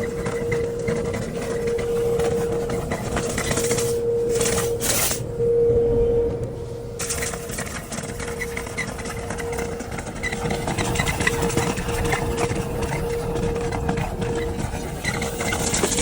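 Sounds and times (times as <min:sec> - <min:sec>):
crackling rattle of clicks: 0:00.0 - 0:05.2, 0:07.0 - 0:16.0
dryer vent cleaning machine hum: 0:00.0 - 0:16.0.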